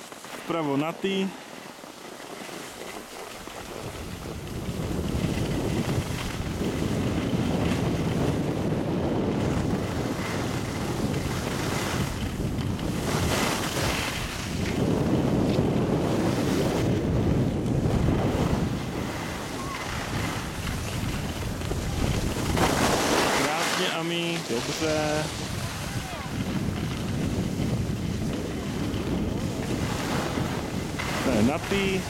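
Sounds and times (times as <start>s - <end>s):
skis sliding on snow: 0.0s - 32.0s
wind buffeting microphone: 2.6s - 32.0s.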